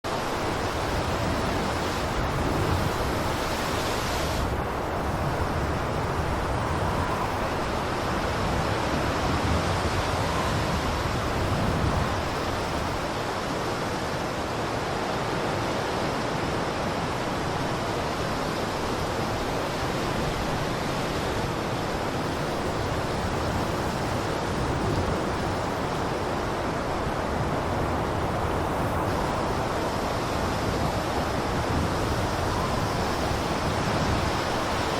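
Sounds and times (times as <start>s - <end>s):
blizzard wind rushing: 0.1s - 34.9s.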